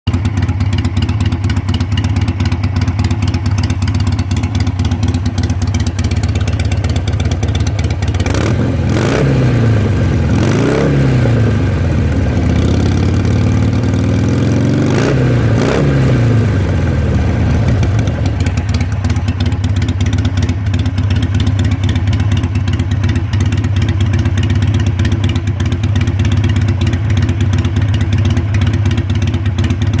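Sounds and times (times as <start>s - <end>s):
motorcycle engine idling and revving: 0.1s - 30.0s.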